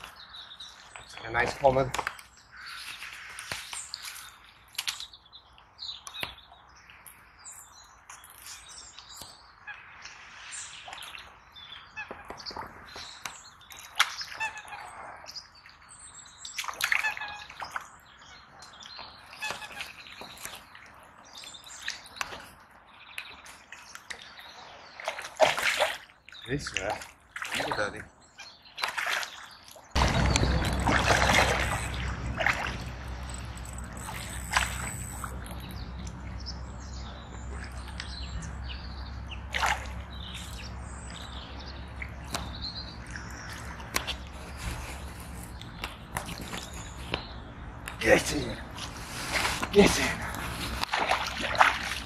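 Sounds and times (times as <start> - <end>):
birds singing and chirping: 0.0 - 52.0.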